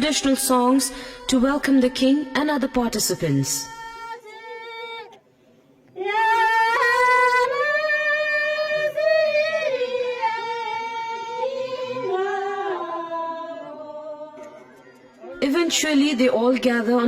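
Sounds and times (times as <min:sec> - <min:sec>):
women singing long held notes: 0:00.0 - 0:05.2, 0:05.9 - 0:14.6.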